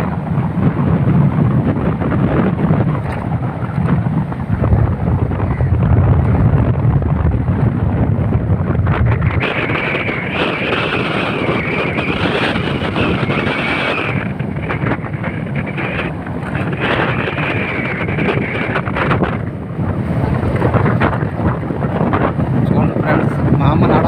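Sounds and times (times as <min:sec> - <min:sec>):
high wavering whine: 0:00.0 - 0:24.0
wind buffeting microphone: 0:00.0 - 0:24.0.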